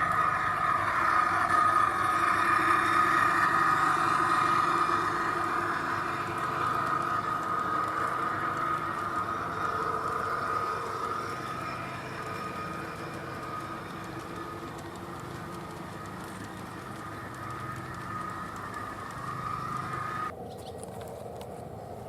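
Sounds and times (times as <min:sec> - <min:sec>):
model train motor whine: 0:00.0 - 0:20.3.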